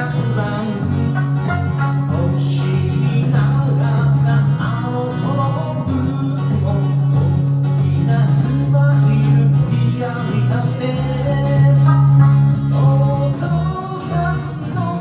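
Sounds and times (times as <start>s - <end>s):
plucked lute melody: 0.0s - 15.0s
steady low drone tone: 0.0s - 15.0s.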